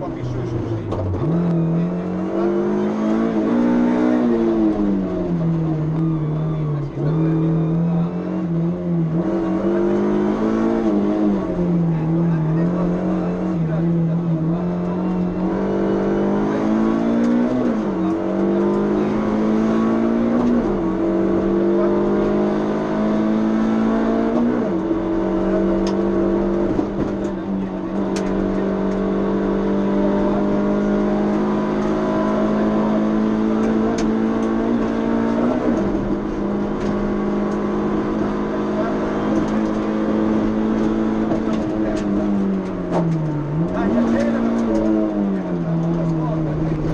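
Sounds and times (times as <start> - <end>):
car engine at full throttle: 0.0 - 46.9.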